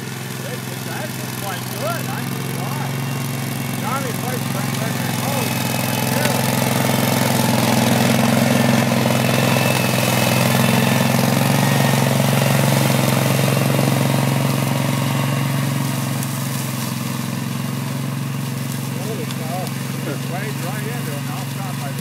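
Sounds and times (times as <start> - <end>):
mower engine running: 0.0 - 22.0.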